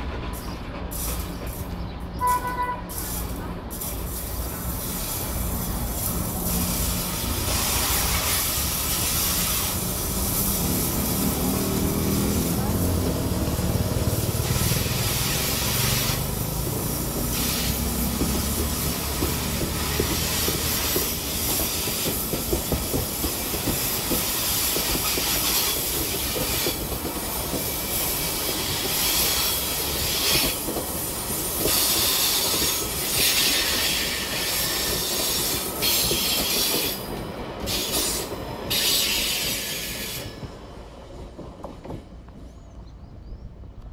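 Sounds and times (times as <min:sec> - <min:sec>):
train wheels rumbling on rails: 0:00.0 - 0:43.9
high hiss from wheels: 0:02.9 - 0:40.4.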